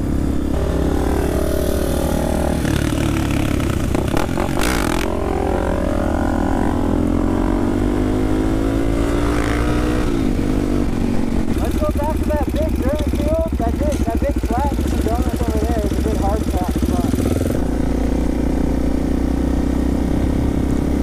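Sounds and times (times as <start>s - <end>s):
motorcycle accelerating: 0.0s - 21.0s
motorcycle engines running: 0.0s - 21.0s.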